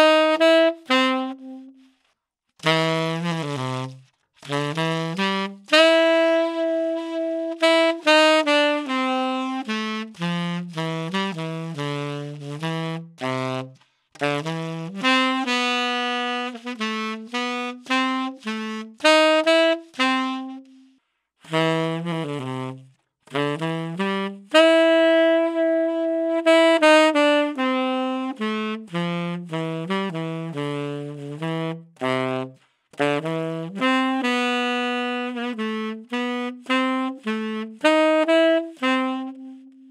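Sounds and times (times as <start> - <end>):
tenor saxophone jazz melody: 0.0 - 39.9.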